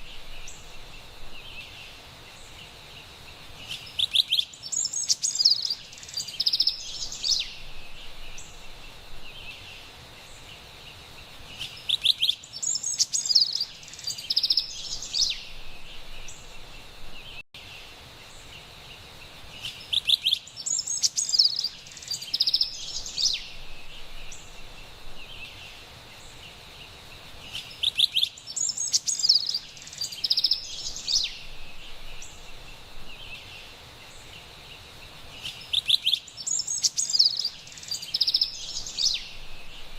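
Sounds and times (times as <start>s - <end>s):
faint background hiss: 0.0s - 39.9s
wren singing: 3.6s - 17.4s, 19.6s - 39.9s.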